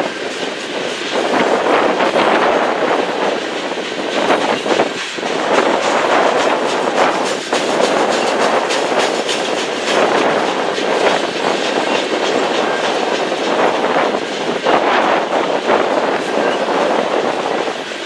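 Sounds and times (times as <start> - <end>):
freight cars rumbling and rattling: 0.0 - 18.0
wheels clicking on rails: 0.0 - 18.0.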